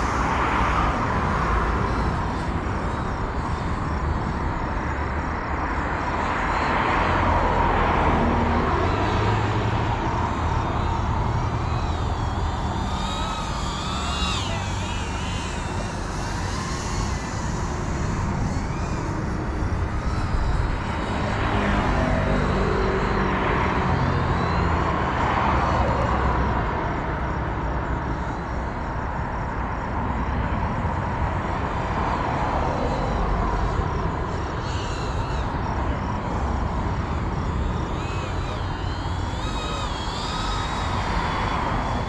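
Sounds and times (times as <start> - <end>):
drone propellers whining: 0.0 - 26.4, 31.4 - 42.0.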